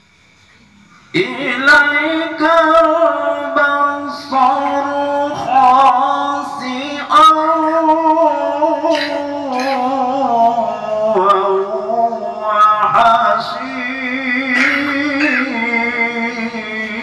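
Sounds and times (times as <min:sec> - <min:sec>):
person chanting melodically: 0:00.4 - 0:17.0.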